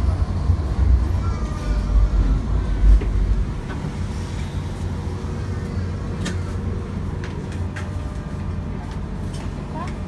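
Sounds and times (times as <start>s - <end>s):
tram rumbling: 0.0s - 10.0s.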